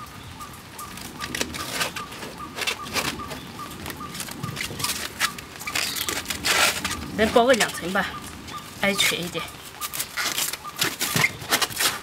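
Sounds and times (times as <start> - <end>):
bird chirping: 0.0 - 11.8
cling film crackling: 0.6 - 12.0.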